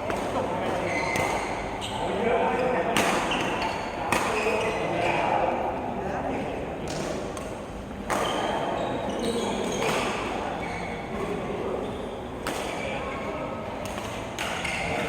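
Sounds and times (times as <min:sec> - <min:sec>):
background chatter: 0:00.0 - 0:15.0.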